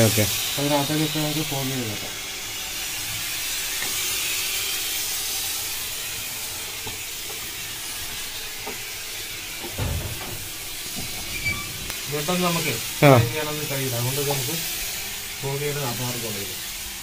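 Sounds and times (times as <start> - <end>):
fogging machine hissing: 0.0 - 17.0.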